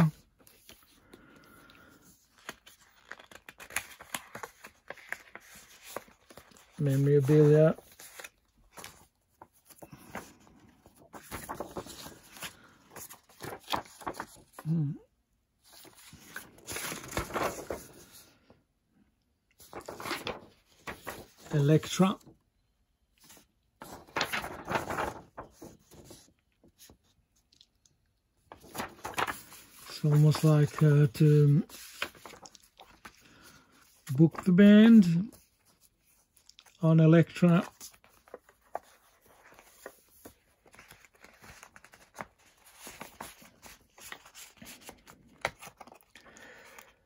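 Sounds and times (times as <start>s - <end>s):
paper pages rustling: 0.0s - 14.9s, 15.6s - 18.5s, 19.5s - 22.4s, 23.2s - 47.0s.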